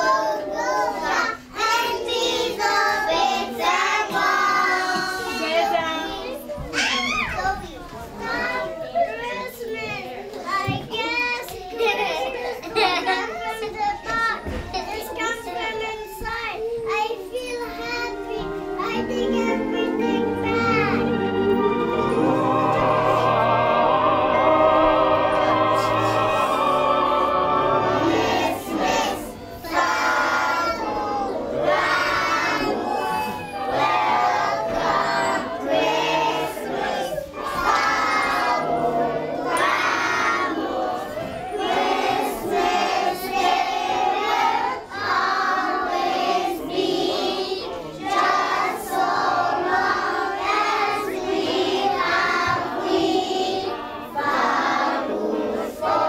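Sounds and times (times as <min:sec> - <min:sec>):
women and children singing: 0:00.0 - 0:56.0.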